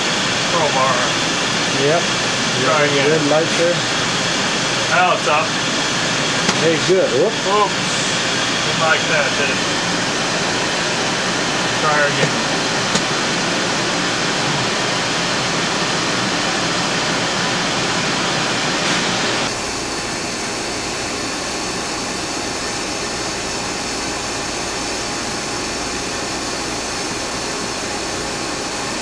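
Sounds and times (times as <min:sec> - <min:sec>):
cooling fans rushing air: 0:00.0 - 0:29.0.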